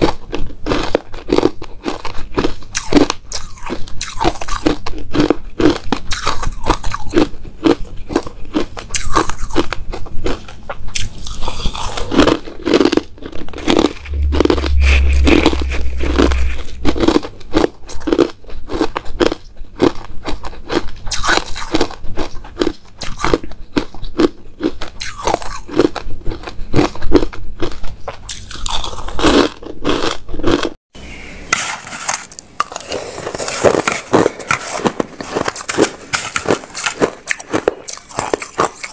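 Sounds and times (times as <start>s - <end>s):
ice crunching being chewed: 0.0s - 30.8s, 32.3s - 38.9s.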